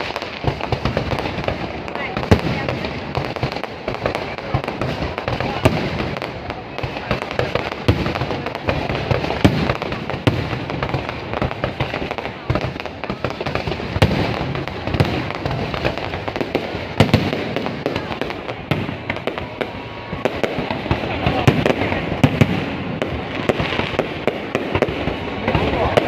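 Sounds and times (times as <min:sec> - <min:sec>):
continuous fireworks din: 0:00.0 - 0:26.0
fireworks bangs: 0:00.0 - 0:26.0.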